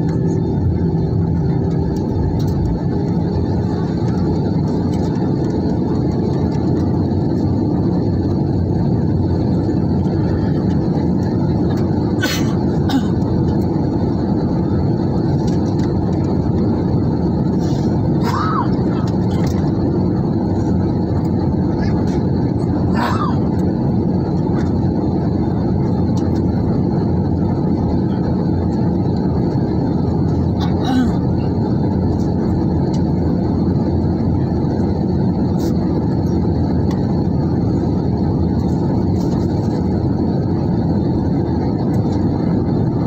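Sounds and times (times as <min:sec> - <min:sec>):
jet airliner cabin noise: 0:00.0 - 0:43.0.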